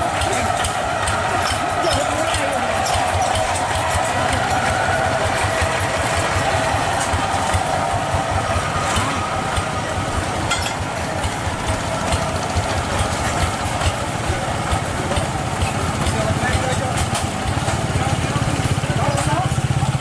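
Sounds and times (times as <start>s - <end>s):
mechanical rattling and clicking: 0.0s - 19.8s
tractor engine running: 0.0s - 20.0s.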